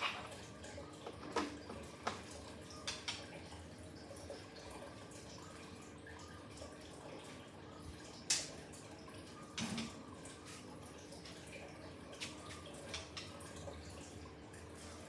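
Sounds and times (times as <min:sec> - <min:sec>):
faint steady hum: 0:00.0 - 0:15.0
water dripping and splashing: 0:00.0 - 0:15.0.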